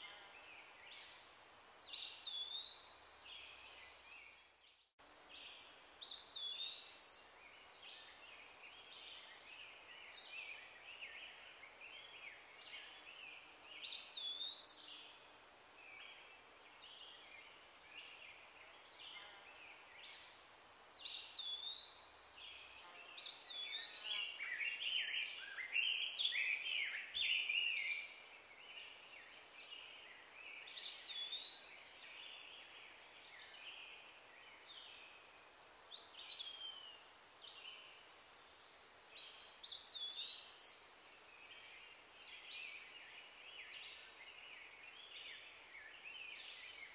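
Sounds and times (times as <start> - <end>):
faint steady hiss: 0.0 - 46.9.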